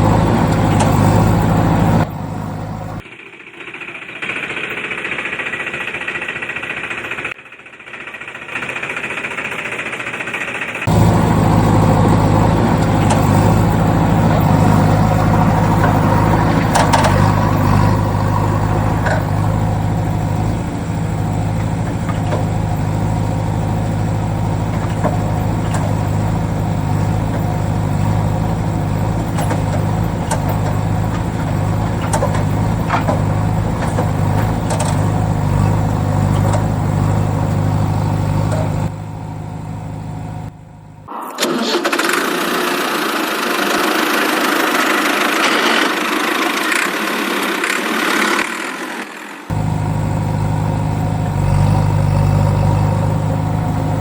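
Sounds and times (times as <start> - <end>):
engine starting: 0.0 - 39.2, 41.0 - 54.0
tractor engine idling: 0.0 - 48.2, 49.5 - 54.0.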